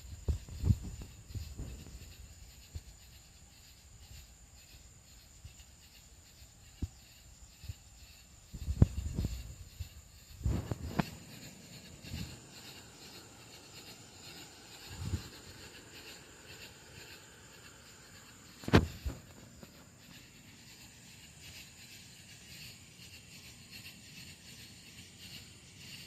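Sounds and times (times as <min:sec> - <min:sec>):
steady high chirring: 0:00.0 - 0:26.0.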